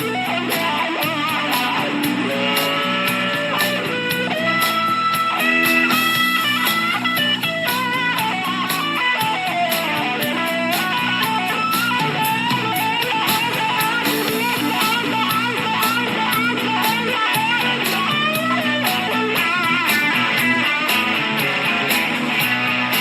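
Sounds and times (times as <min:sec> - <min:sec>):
bass guitar: 0:00.0 - 0:23.0
electric guitar lead with bent notes: 0:00.0 - 0:23.0
steady drum beat: 0:00.0 - 0:23.0.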